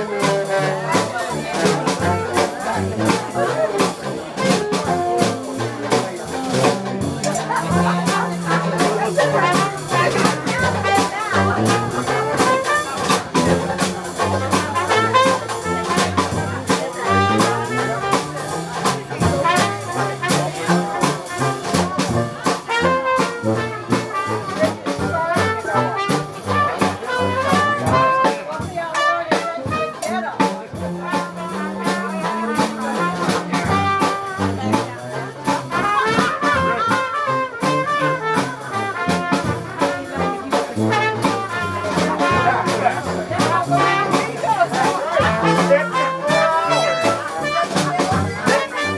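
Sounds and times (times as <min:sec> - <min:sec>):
drum strokes: 0:00.0 - 0:48.9
jazz band playing: 0:00.0 - 0:48.9
trombone: 0:00.0 - 0:48.9
trumpet: 0:00.0 - 0:48.9.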